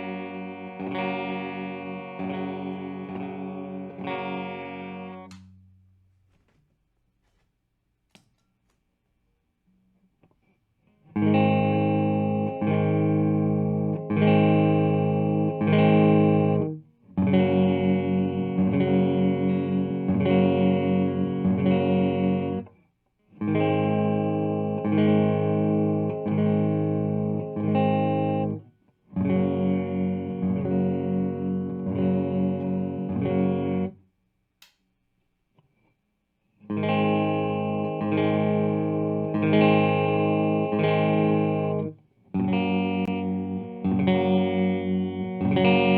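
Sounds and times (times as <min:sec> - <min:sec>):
electric guitar chords: 0:00.0 - 0:06.5, 0:10.8 - 0:34.0, 0:36.6 - 0:45.9.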